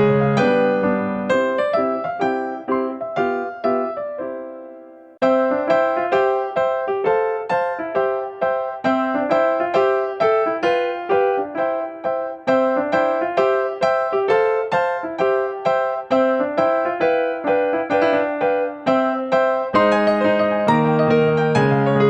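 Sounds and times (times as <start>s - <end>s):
light piano tune: 0.0s - 22.0s.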